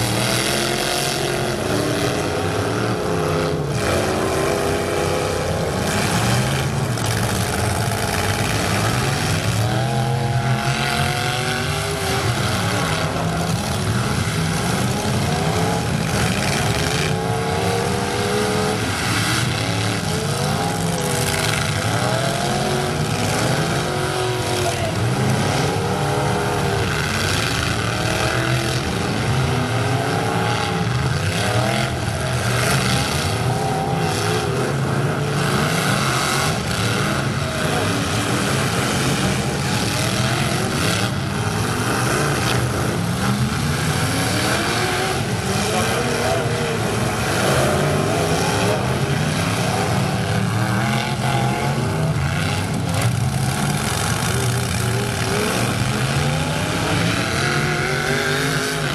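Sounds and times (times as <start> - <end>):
truck engines revving hard: 0.0 - 58.9.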